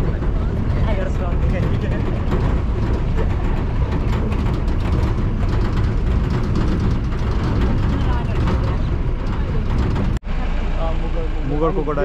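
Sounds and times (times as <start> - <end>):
rattling and knocks: 0.0 - 10.2
vehicle engine and road rumble: 0.0 - 12.0.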